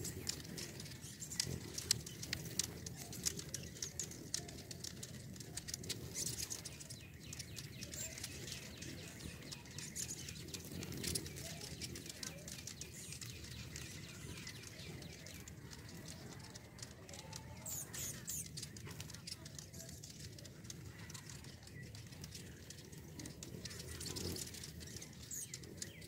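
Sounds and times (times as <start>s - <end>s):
hum of hummingbird wings: 0.0s - 26.0s
hummingbirds chipping and chattering: 0.0s - 26.0s.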